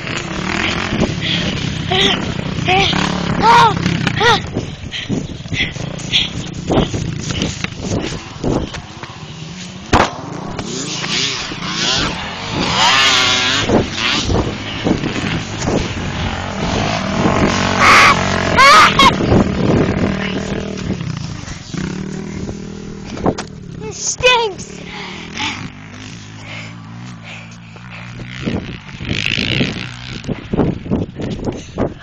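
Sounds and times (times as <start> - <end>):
engine revving: 0.0 - 4.5, 5.6 - 30.8.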